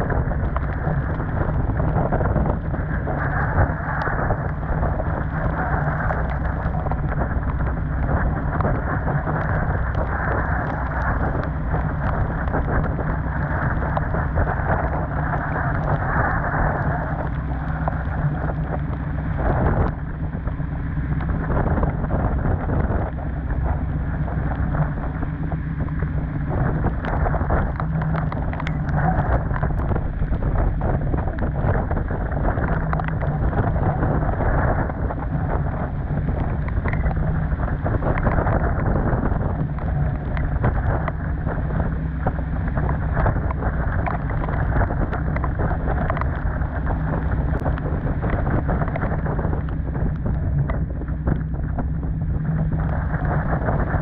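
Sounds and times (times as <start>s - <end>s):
rain and spray ticking: 0.0s - 54.0s
steady low hum: 0.0s - 54.0s
wind buffeting microphone: 0.0s - 54.0s.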